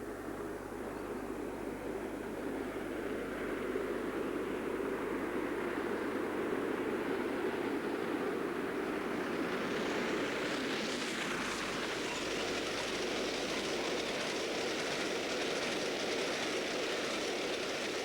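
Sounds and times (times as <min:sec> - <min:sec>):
steam train rushing rail noise: 0:00.0 - 0:18.0.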